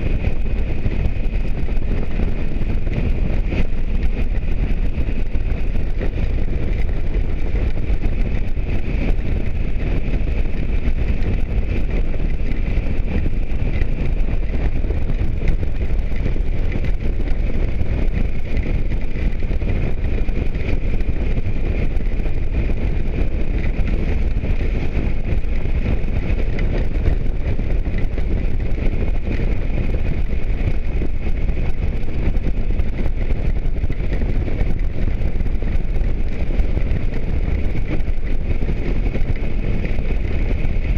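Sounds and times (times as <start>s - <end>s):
motorcycle riding: 0.0s - 40.9s
steady high whine: 0.0s - 40.9s
wind rushing over microphone: 0.0s - 40.9s.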